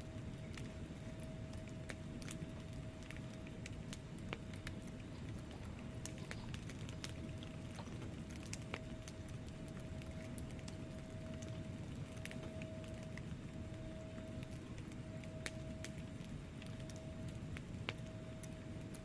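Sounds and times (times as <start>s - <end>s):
faint steady tone: 0.0s - 19.0s
fire flames rumbling: 0.0s - 19.0s
logs crackling and snapping: 0.0s - 19.0s.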